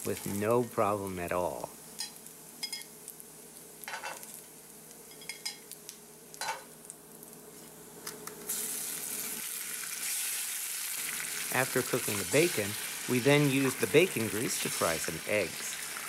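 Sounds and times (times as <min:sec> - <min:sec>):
bacon sizzling in a pan: 0:00.0 - 0:16.0.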